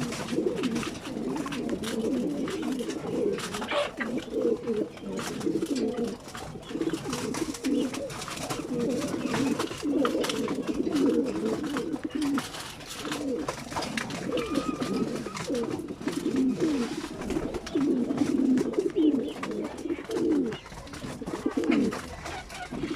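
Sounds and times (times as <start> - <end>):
pigeons cooing: 0.0 - 22.9.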